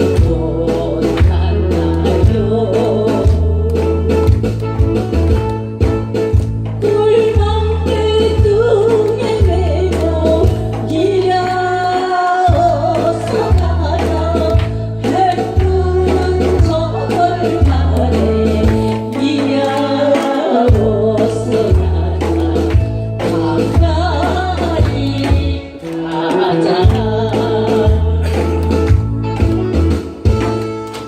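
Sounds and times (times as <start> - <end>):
person singing with vibrato: 0.0 - 4.3, 6.8 - 29.1
backing band: 0.0 - 31.0.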